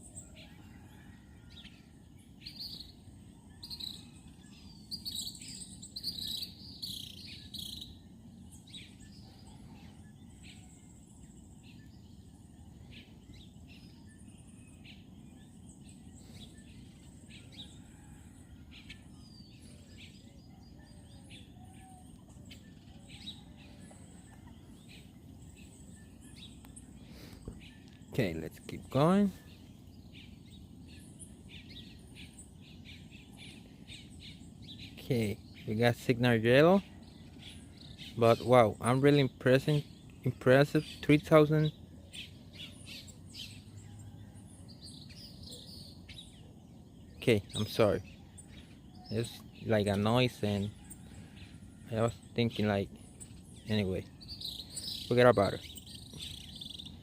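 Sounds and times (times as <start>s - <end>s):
birds chirping: 0.0s - 57.0s
low background noise: 0.0s - 57.0s.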